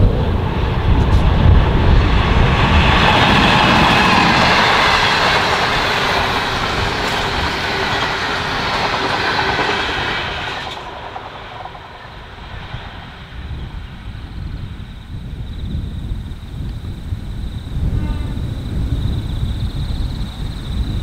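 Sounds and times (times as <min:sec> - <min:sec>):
train passing close by: 0:00.0 - 0:21.0
wheel and rail noise: 0:00.0 - 0:21.0.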